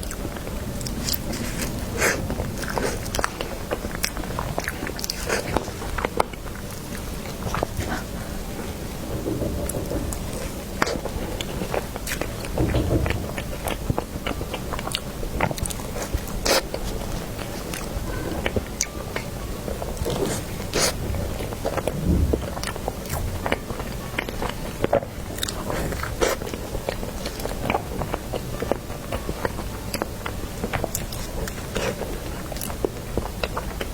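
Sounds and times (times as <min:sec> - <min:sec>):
chewing soft cake: 0:00.0 - 0:33.9.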